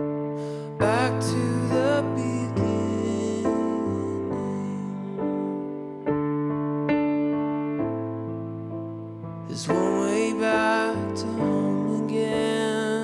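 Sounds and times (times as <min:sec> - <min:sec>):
slow keyboard chords: 0:00.0 - 0:13.0.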